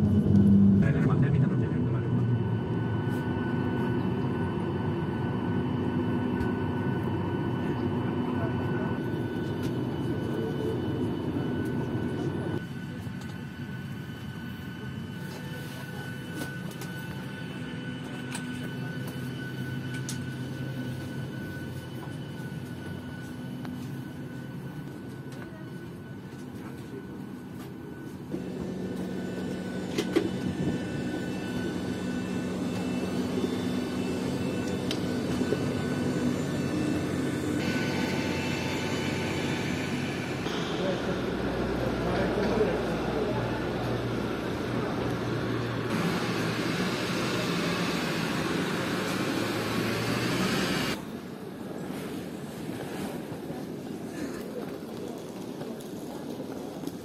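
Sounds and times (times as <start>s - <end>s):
high whine: 0.0s - 51.2s
aircraft cabin air-system noise: 0.0s - 57.0s.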